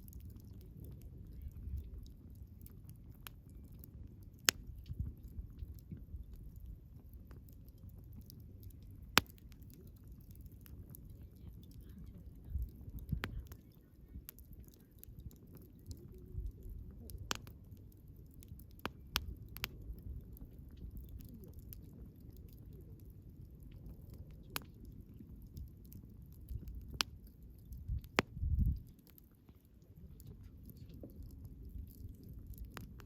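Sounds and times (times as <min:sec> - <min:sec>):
bonfire crackling: 0:00.0 - 0:33.0
burning logs popping: 0:00.0 - 0:33.0.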